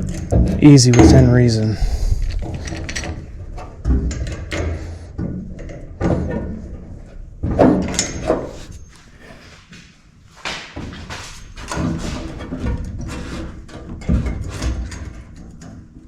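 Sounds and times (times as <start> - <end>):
metal knocks and clanks: 0.0 - 8.9, 10.5 - 16.0.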